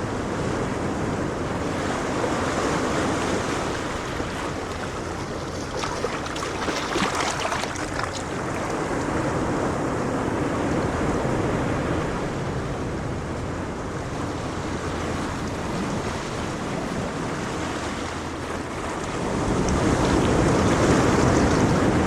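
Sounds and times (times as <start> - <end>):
ocean waves rumbling: 0.0 - 22.0.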